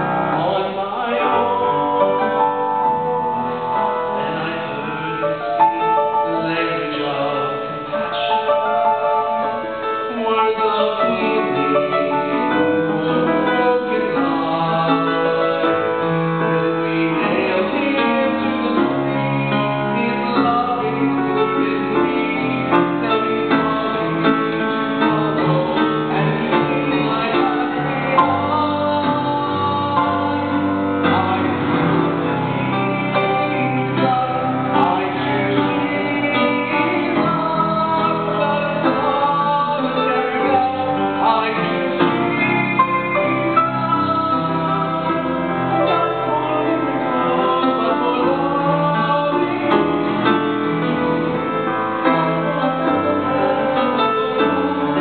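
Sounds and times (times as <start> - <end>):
man singing: 0.0 - 55.0
piano accompaniment: 0.0 - 55.0.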